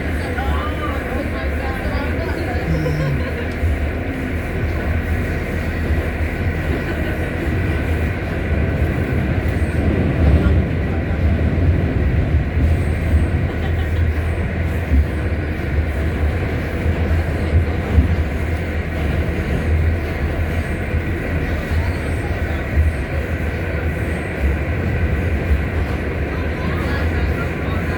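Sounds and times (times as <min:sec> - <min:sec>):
subway wheels rumbling on track: 0:00.0 - 0:27.9.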